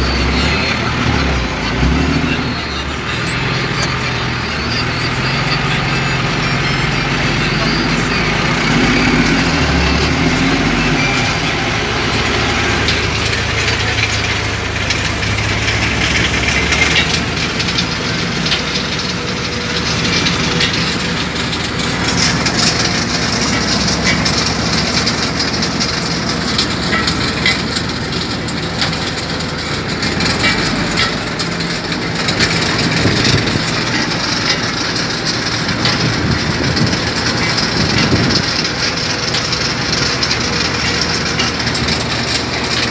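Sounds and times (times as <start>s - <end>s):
engine hum: 0.0s - 42.9s.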